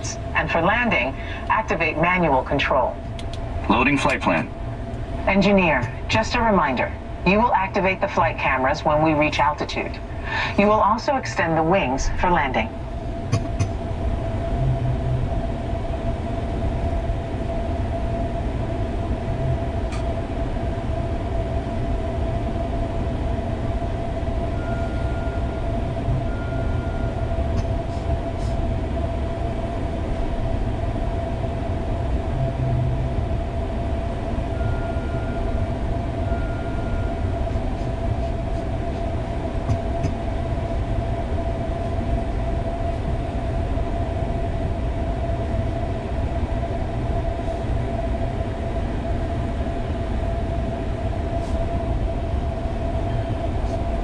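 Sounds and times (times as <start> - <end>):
electronic hum: 0.0 - 54.0
steady low rumble: 0.0 - 54.0.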